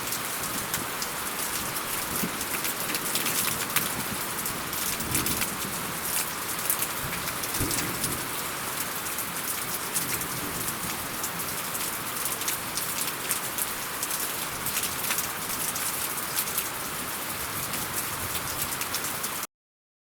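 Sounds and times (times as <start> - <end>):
rain falling: 0.0 - 19.5.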